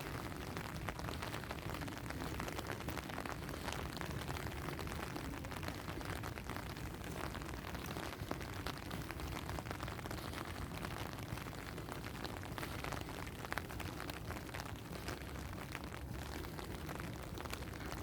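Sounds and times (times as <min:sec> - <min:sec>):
raindrops ticking: 0:00.0 - 0:18.0
steady rain: 0:00.0 - 0:18.0.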